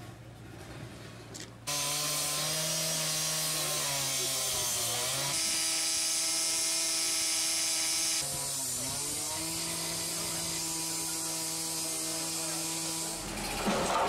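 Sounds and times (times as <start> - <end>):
cut-off saw cutting wood: 1.7 - 14.0.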